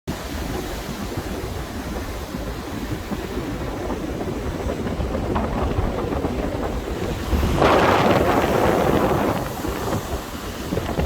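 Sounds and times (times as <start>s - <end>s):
strong wind and rough sea: 0.1s - 11.0s
wind buffeting microphone: 0.1s - 11.0s.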